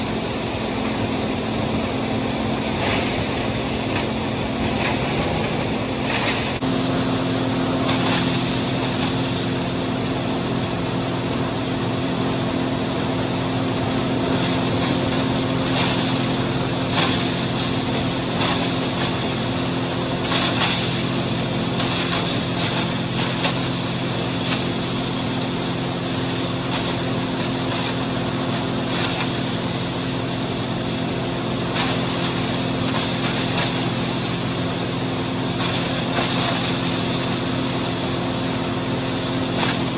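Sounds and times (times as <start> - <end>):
tractor engine drone: 0.0 - 39.9.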